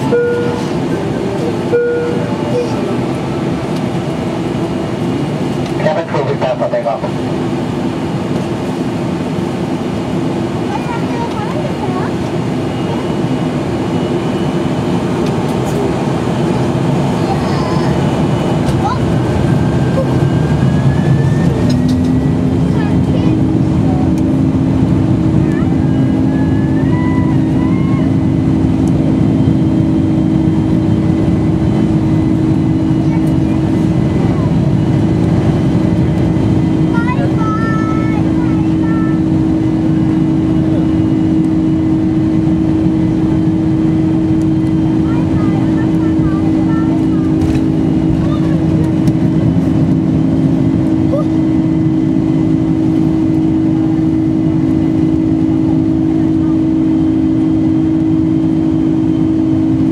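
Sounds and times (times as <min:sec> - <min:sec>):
constant low hum: 0:00.0 - 0:59.9
jet cabin engine rumble: 0:00.0 - 0:59.9.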